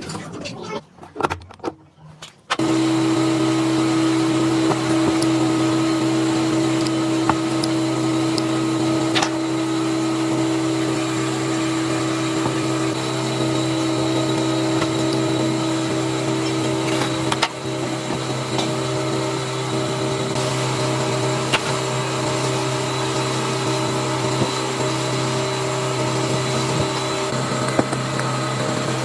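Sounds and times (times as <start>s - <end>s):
air compressor humming: 2.6s - 29.0s.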